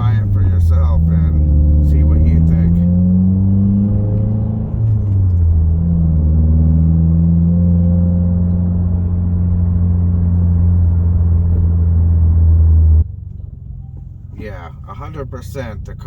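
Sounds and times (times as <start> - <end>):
car engine hum while driving: 0.0 - 16.0.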